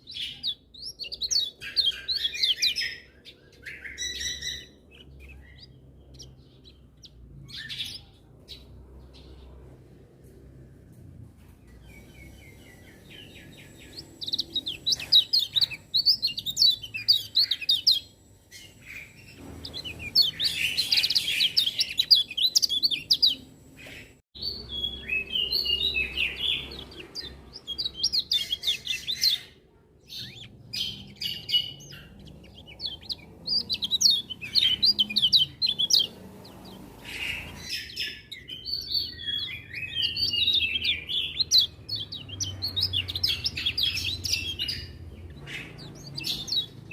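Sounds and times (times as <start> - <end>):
bird twittering song: 0.0 - 9.8, 11.6 - 46.9.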